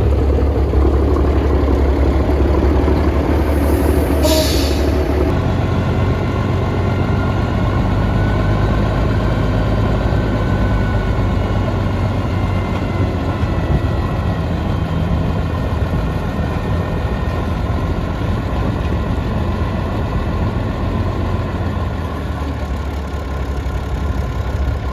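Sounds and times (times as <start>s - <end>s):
truck engine running: 0.0s - 24.9s.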